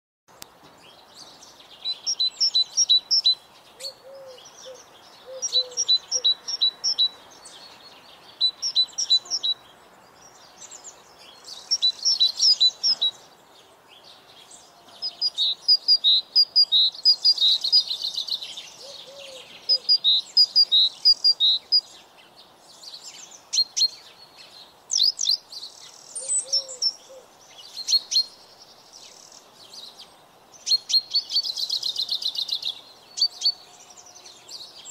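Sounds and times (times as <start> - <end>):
songbirds singing: 0.3 - 34.9.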